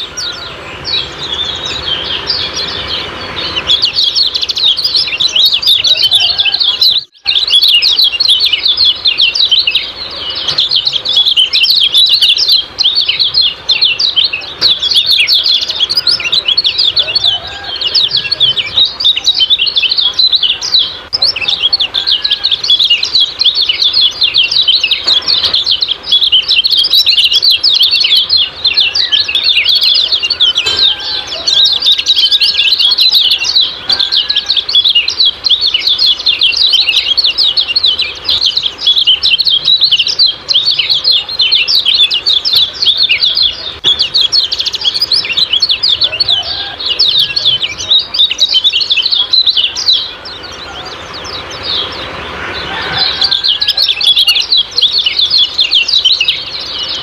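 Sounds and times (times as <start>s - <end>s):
songbird chirping sharply: 0.0s - 57.0s.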